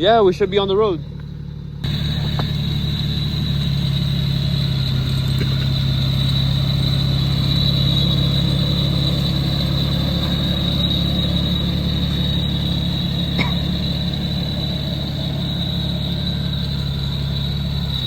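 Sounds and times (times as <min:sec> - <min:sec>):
car engine idling: 0:00.0 - 0:18.0
high turbo whine: 0:00.0 - 0:18.0.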